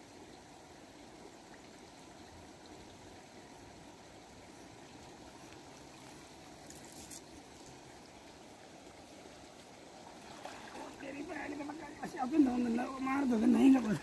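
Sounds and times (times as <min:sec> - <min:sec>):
river water flowing over stones: 0:00.0 - 0:14.0.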